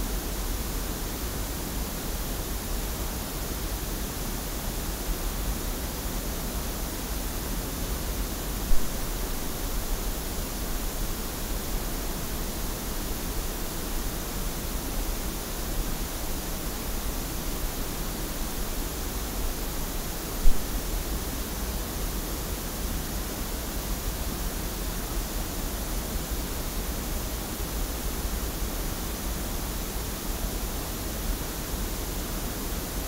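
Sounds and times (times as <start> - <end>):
pink noise test signal: 0.0 - 33.0.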